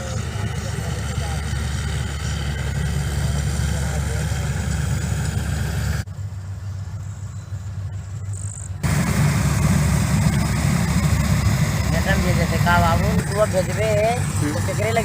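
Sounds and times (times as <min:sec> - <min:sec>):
machinery noise: 0:00.0 - 0:06.1, 0:08.7 - 0:15.0
combine harvester engine drone: 0:00.0 - 0:15.0.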